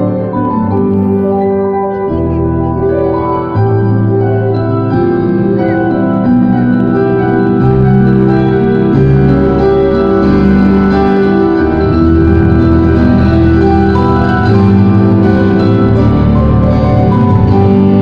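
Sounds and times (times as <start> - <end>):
electric pianos playing chords: 0.0 - 18.0.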